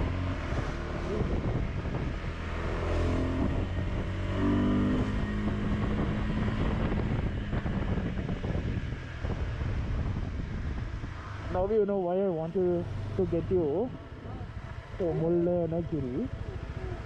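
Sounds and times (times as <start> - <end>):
motorcycle engine humming: 0.0 - 17.0.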